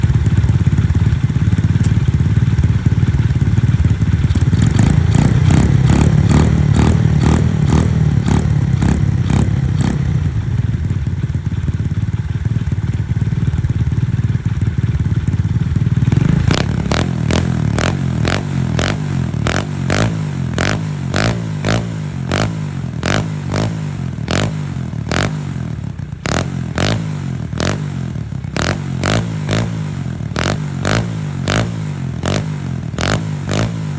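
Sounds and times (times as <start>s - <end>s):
small motorbike engine running: 0.0s - 33.9s.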